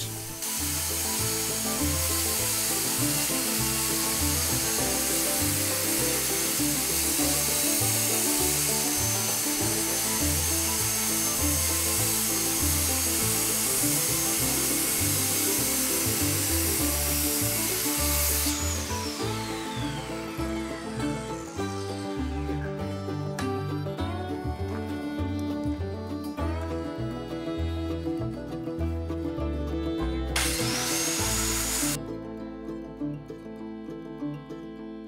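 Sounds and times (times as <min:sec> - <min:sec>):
circular saw cutting wood: 0:00.0 - 0:32.0
background music: 0:00.0 - 0:35.0.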